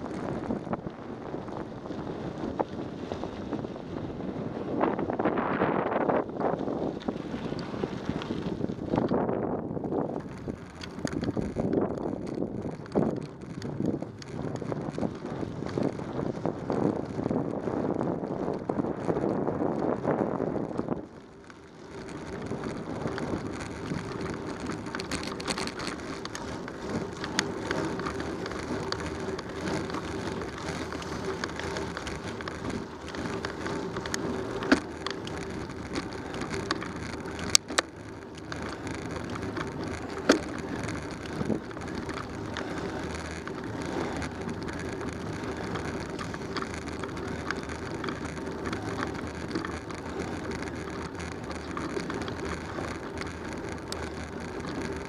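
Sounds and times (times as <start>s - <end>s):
bicycle rattles: 0.0s - 55.0s
bicycle tyres on paved road: 0.0s - 55.0s
sharp clicks from bike: 0.0s - 55.0s.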